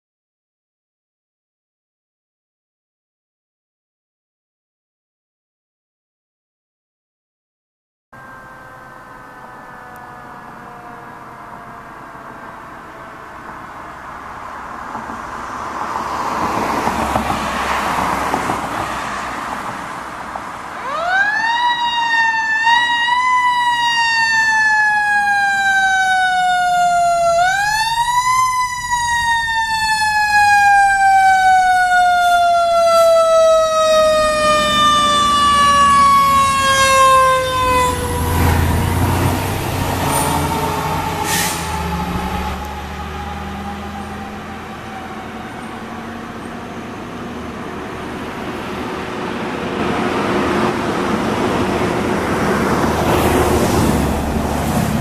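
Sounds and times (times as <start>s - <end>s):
fire engine siren: 8.2s - 55.0s
truck engine rumble: 8.2s - 55.0s.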